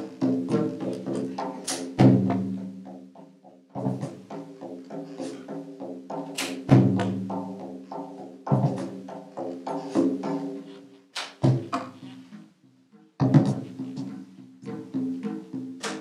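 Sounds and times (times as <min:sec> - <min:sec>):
taiko drums: 0:00.0 - 0:10.7, 0:11.4 - 0:12.4, 0:13.2 - 0:16.0.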